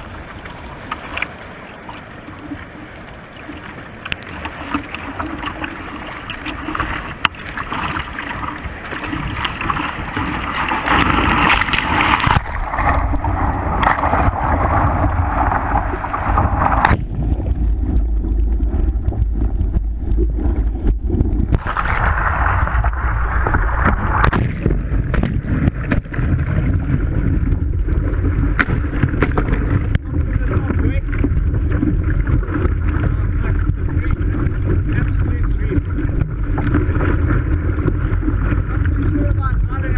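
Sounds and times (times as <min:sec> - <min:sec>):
wind rumbling on microphone: 0:03.8 - 0:39.9.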